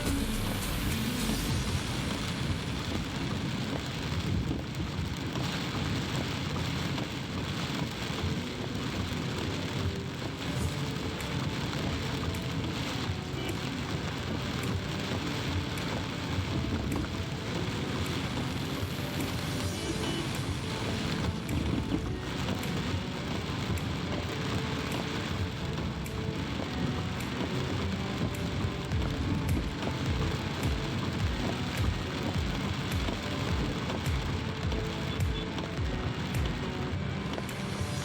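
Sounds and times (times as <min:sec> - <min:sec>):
heavy rain hissing: 0:00.0 - 0:38.0
raindrops ticking on surface: 0:00.0 - 0:38.0.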